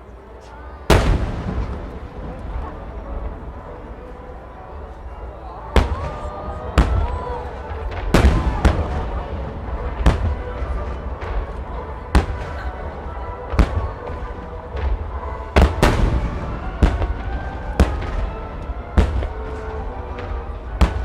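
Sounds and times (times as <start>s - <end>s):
music playing: 0.0s - 21.0s.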